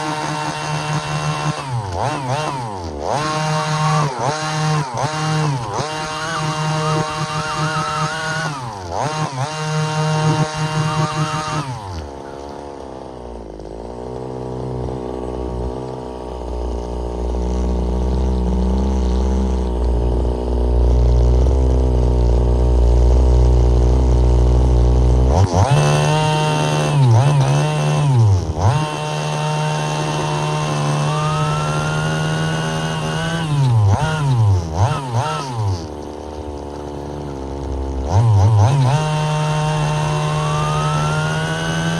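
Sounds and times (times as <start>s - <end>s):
small two-stroke engine revving: 0.0s - 41.9s.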